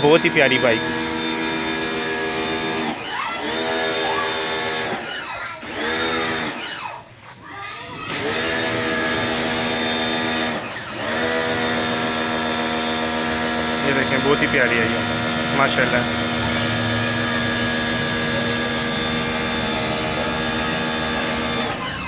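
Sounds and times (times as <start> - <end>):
pressure washer motor whining: 0.0 - 7.2, 8.0 - 22.0.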